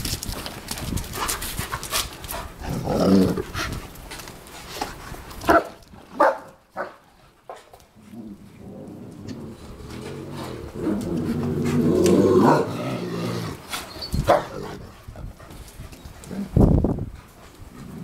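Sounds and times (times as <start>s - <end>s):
dogs panting and scuffling: 0.0s - 18.0s.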